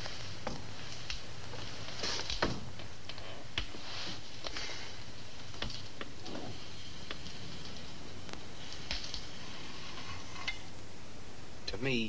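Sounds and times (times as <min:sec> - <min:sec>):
hiss and hum of tv soundtrack: 0:00.0 - 0:12.0.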